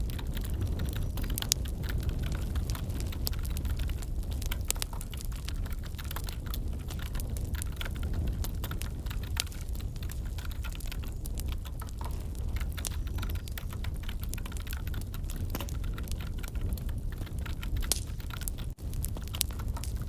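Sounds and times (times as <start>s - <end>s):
wood fire crackling: 0.0s - 20.0s
keyboard typing: 0.1s - 20.0s.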